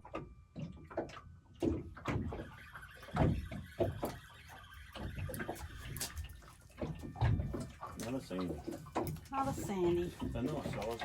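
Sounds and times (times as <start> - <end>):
knocks and thumps on a boat: 0.0 - 11.0.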